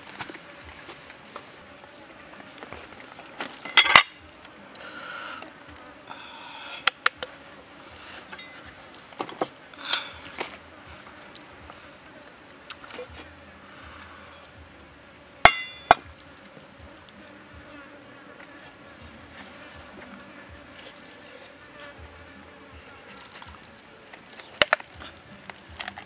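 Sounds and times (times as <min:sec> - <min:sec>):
insect buzzing: 0:00.0 - 0:26.0.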